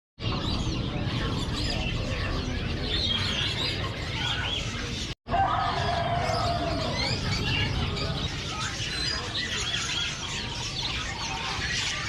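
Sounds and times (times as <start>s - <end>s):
caged birds chirping: 0.2s - 12.0s
low hum of market activity: 0.2s - 12.0s.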